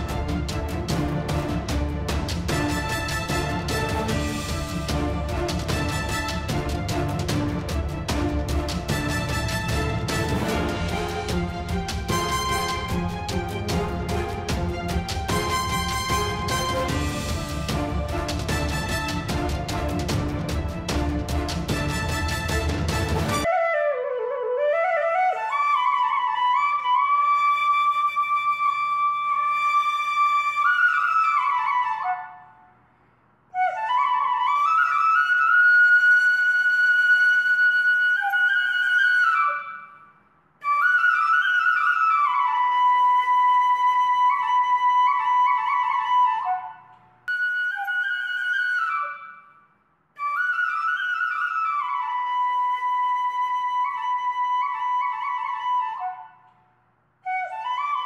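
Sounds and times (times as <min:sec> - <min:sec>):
solo flute melody: 0:00.0 - 0:32.8, 0:33.5 - 0:58.0.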